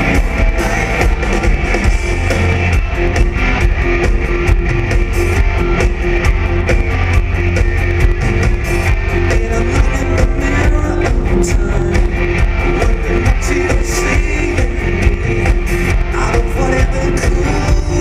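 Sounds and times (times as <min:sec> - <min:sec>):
drum kit: 0:00.0 - 0:18.0
electric guitars: 0:00.0 - 0:18.0
heavy bass: 0:00.0 - 0:18.0.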